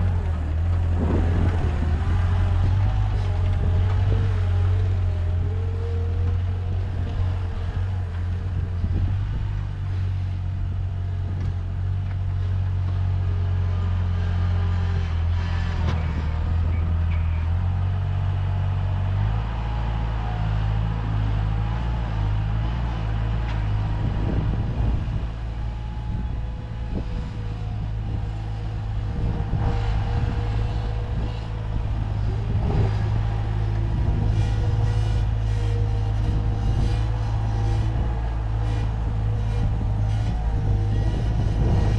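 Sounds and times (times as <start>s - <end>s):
diesel engine running under load: 0.0s - 41.9s.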